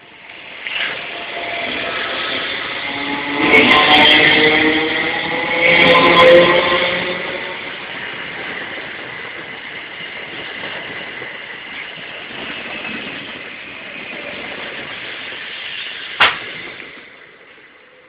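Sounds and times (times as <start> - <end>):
train wheels rumbling and hissing: 0.0 - 18.0.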